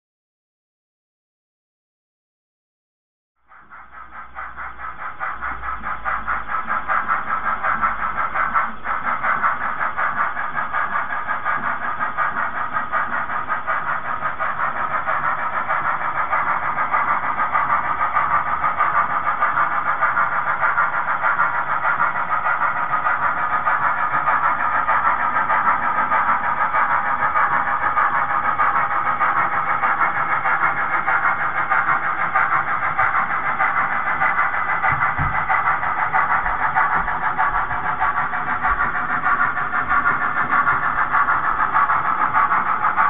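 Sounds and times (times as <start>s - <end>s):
steam locomotive chuffing: 3.4s - 43.0s.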